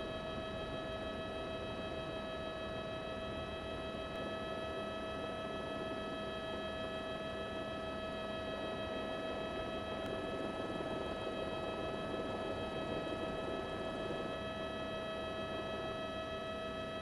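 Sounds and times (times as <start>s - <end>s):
constant whine: 0.0s - 17.0s.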